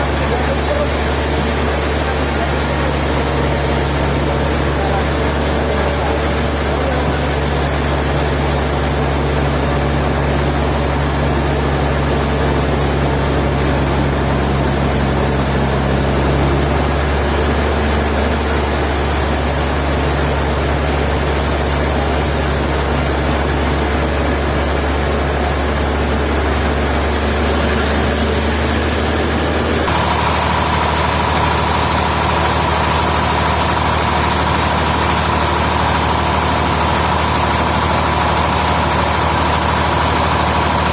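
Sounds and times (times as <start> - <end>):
high machine whine: 0.0 - 40.9
sawmill machinery running: 0.0 - 40.9.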